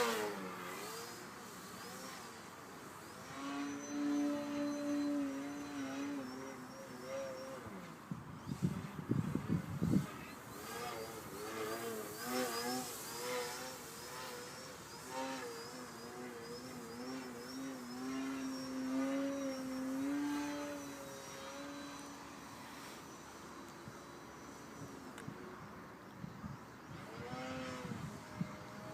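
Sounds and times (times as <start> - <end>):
model plane motor droning: 0.0 - 28.9.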